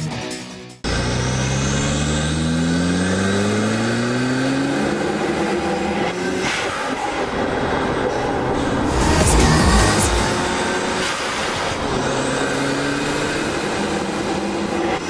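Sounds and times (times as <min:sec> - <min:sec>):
car engine accelerating: 0:00.8 - 0:15.0.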